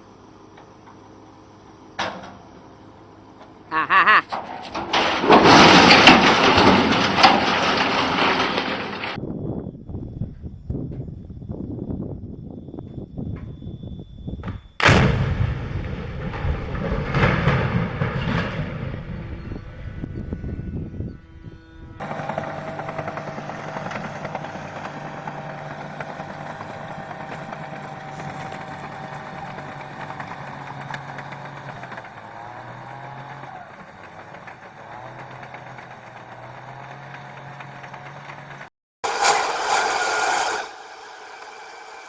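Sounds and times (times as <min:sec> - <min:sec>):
heavy machine engine running: 0:00.0 - 0:14.0, 0:14.8 - 0:42.0.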